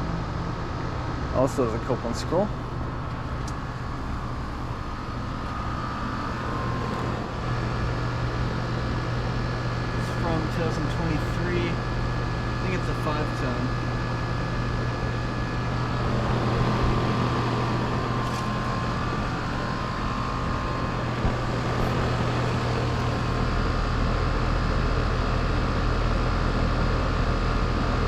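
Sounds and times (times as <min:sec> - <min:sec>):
compressor hum: 0:00.0 - 0:28.0
condenser fans rushing: 0:00.0 - 0:28.0
deep low hum: 0:02.3 - 0:26.6.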